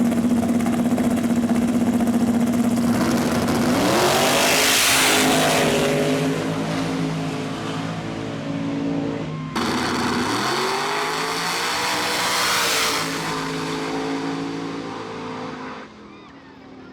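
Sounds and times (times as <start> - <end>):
drag racing car engine revving: 0.0 - 16.0.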